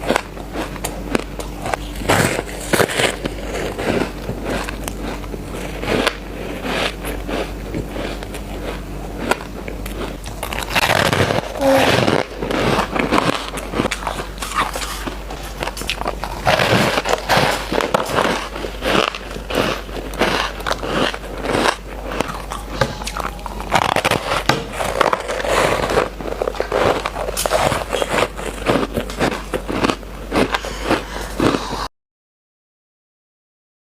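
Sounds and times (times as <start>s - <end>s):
person chewing shaved ice: 0.0s - 31.9s.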